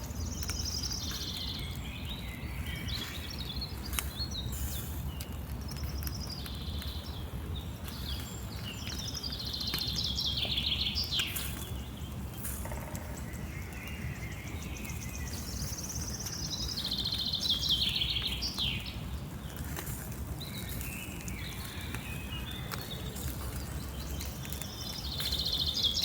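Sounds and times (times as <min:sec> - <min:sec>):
songbirds trilling: 0:00.0 - 0:26.0.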